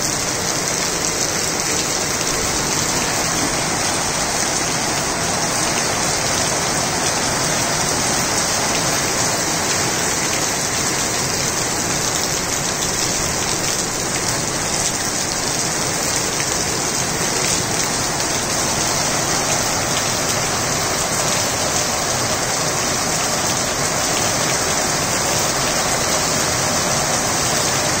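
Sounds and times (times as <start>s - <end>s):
rain falling on tiled roof: 0.0s - 28.0s.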